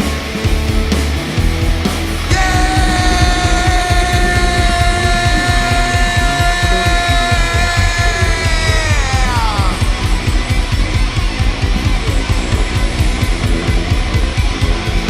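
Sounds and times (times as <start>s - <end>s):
rock band playing: 0.0s - 15.0s
distorted guitar sliding down: 0.5s - 15.0s.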